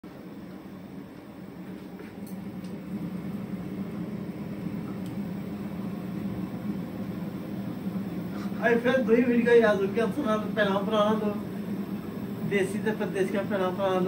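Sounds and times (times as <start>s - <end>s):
low mechanical hum with hiss: 0.0s - 14.0s.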